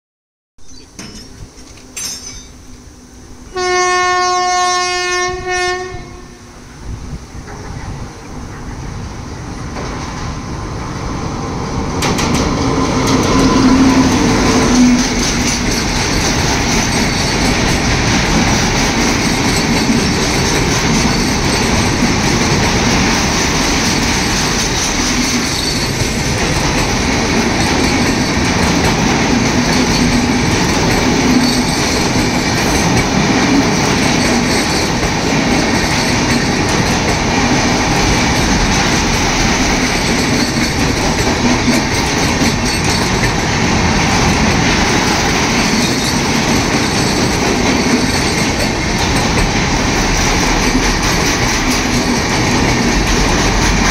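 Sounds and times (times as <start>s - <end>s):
train wheels rushing and clattering: 7.0s - 53.9s.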